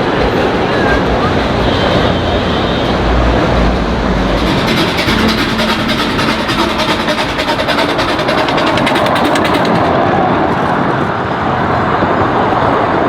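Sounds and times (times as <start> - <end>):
park train running: 0.0 - 13.0.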